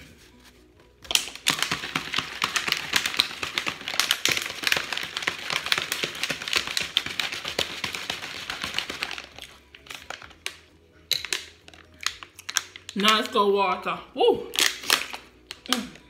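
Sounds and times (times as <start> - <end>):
plastic bottle crinkling: 1.0 - 13.4, 14.5 - 16.0.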